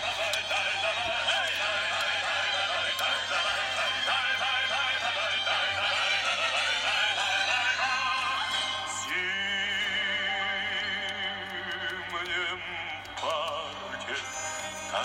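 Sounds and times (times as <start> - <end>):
musical accompaniment: 0.0 - 15.0.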